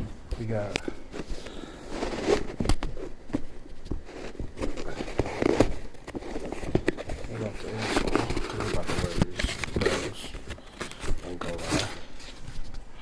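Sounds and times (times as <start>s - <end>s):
sneakers handling rustling: 0.4s - 12.9s.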